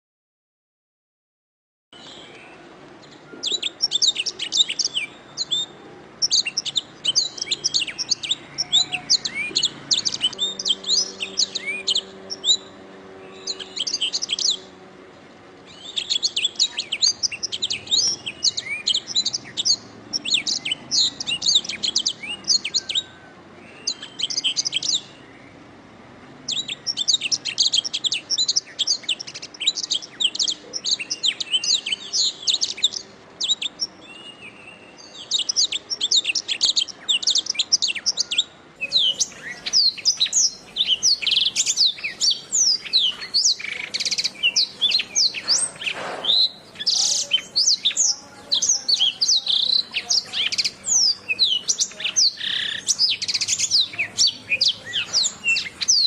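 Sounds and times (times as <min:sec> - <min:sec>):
canary singing trills: 0:02.0 - 0:56.0.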